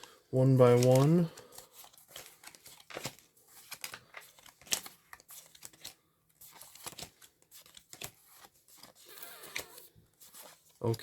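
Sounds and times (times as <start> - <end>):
cards rustling and snapping: 0.0 - 11.0.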